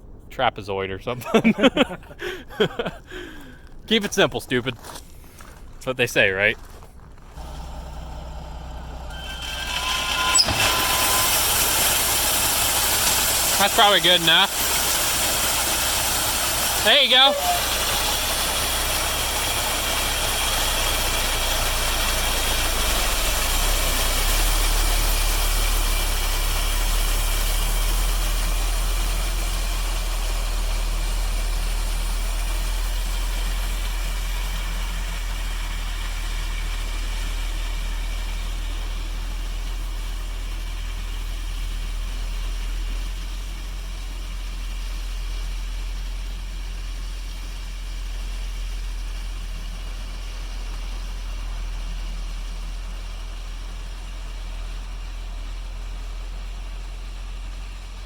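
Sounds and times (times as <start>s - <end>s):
vehicle engine idling: 1.6s - 58.0s.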